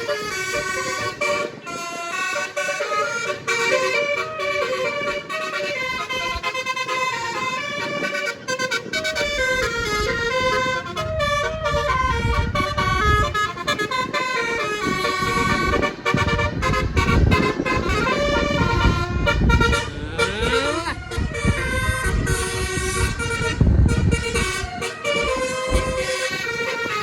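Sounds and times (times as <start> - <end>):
engine and road rumble: 0.0 - 27.0
multi-note air horn melody: 0.0 - 27.0.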